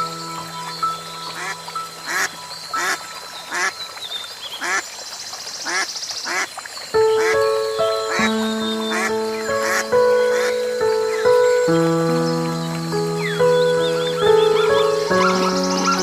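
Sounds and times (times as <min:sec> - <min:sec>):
background music with held notes: 0:00.0 - 0:04.8, 0:07.0 - 0:16.0.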